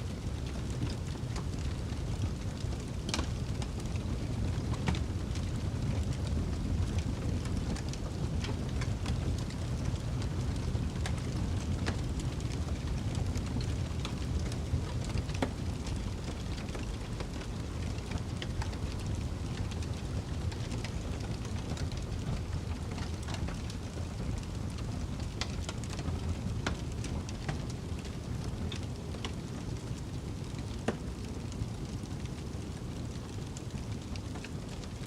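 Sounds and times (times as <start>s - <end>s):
low rumble of wind: 0.0s - 35.0s
wood fire crackling: 0.0s - 35.0s.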